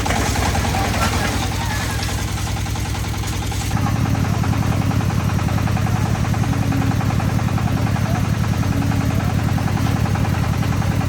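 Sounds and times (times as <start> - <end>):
concrete mixer engine running: 0.0 - 11.0.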